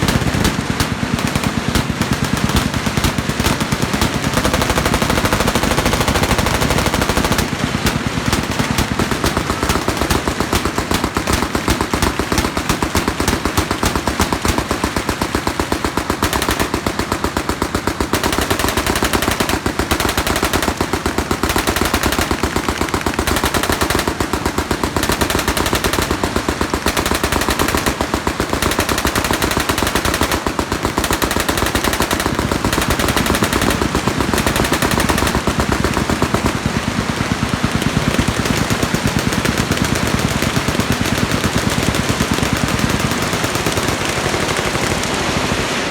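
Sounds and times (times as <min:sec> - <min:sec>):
machine guns firing: 0:00.0 - 0:45.9.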